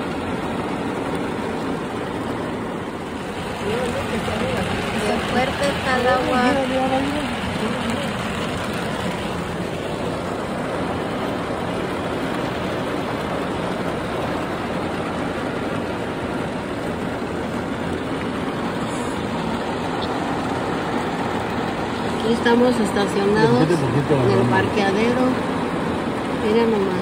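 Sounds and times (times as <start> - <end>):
heavy rain on a car: 0.0 - 27.0.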